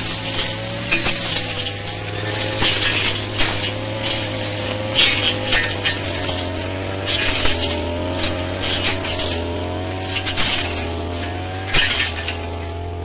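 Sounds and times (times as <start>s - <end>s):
blade crunching through shrubs: 0.0s - 13.0s
brush cutter engine running: 0.0s - 13.0s.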